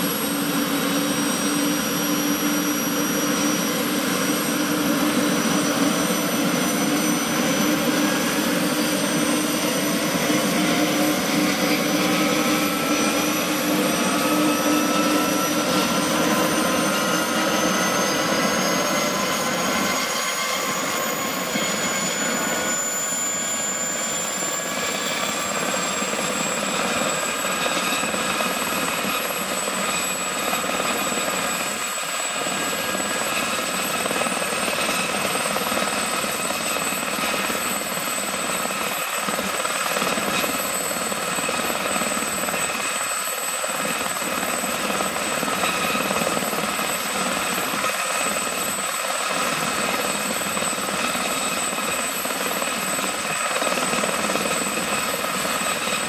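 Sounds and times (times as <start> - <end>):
helicopter rotor noise: 0.0 - 56.0
helicopter turbine whine: 0.0 - 56.0.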